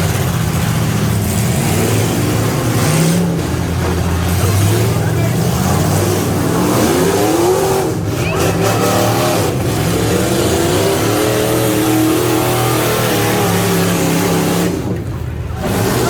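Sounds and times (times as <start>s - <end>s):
pickup truck engine revving: 0.0s - 16.0s.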